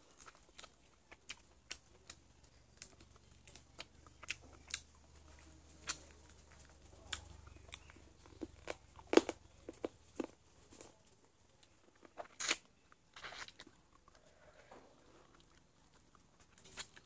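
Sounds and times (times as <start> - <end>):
person chewing chicken: 0.0 - 10.4, 11.9 - 17.0.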